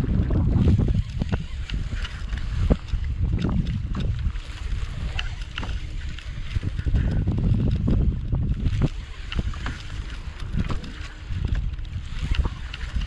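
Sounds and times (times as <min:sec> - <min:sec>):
water splashing against hull: 0:00.0 - 0:13.0
wind rumbling on microphone: 0:00.0 - 0:13.0.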